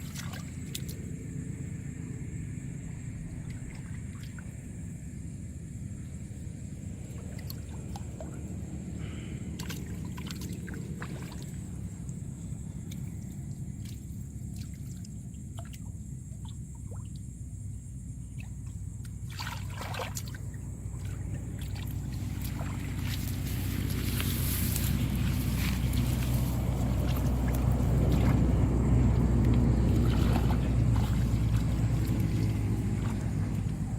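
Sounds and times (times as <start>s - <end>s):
water splashing and trickling: 0.0s - 1.5s, 2.8s - 17.6s, 18.2s - 33.9s
steady low rumble: 0.0s - 33.9s.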